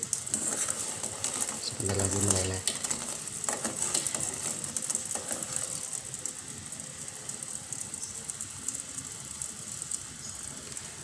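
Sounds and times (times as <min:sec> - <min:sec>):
pot of water boiling: 0:00.0 - 0:11.0.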